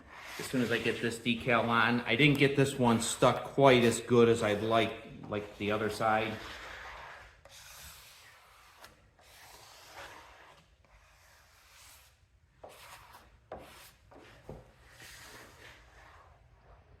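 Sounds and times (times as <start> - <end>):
faint rubbing strokes on decal: 0.0 - 1.8, 3.7 - 17.0.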